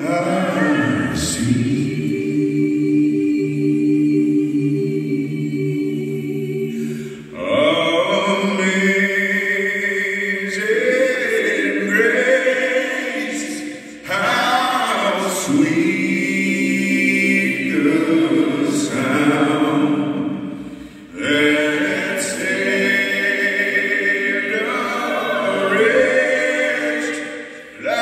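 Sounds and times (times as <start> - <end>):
voices singing in harmony: 0.0 - 28.0.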